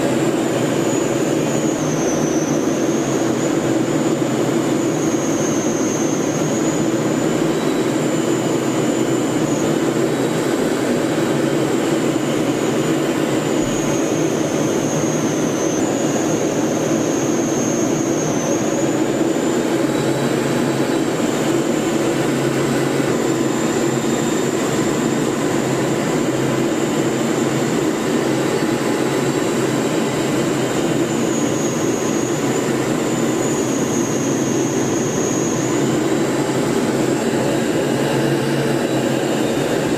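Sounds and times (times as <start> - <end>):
aircraft engine drone: 0.0 - 39.9
thin high whine: 0.0 - 39.9.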